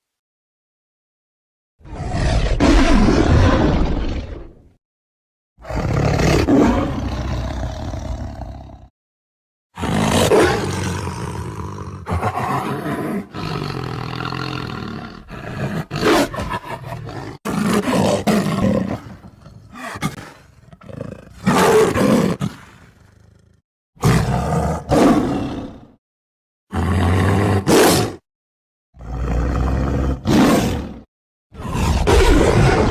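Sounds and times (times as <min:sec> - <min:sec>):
tiger roaring and growling: 0:01.8 - 0:04.7, 0:05.6 - 0:08.9, 0:09.8 - 0:26.0, 0:26.7 - 0:28.2, 0:29.0 - 0:32.9.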